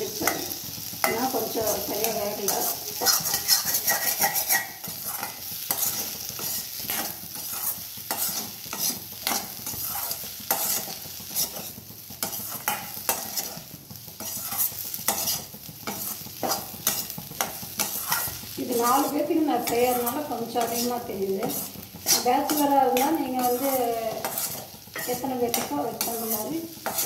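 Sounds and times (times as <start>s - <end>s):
potatoes sizzling in oil: 0.0s - 27.0s
steel spoon scraping metal pan: 0.2s - 27.0s.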